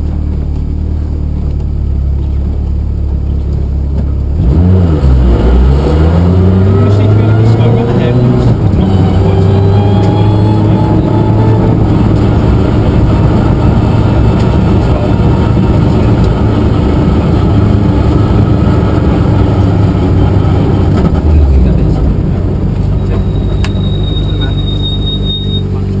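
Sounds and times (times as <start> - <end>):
rally car engine at high revs: 0.0 - 26.0
road and tyre noise: 0.0 - 26.0.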